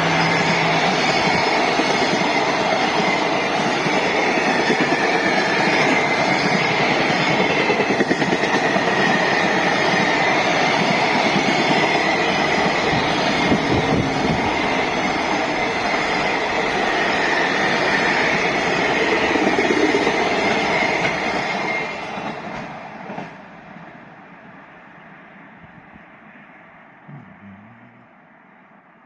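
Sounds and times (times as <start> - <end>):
freight train rumbling past: 0.0 - 26.6.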